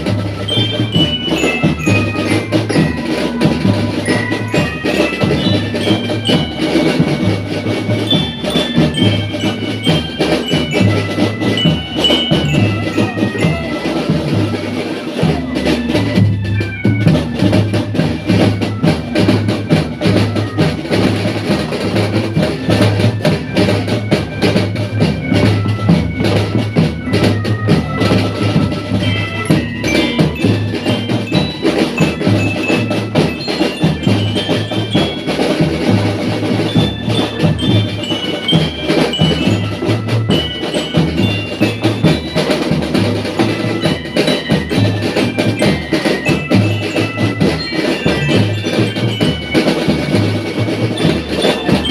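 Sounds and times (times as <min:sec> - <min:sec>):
glockenspiel melody: 0:00.0 - 0:51.9
marching drums: 0:00.0 - 0:51.9.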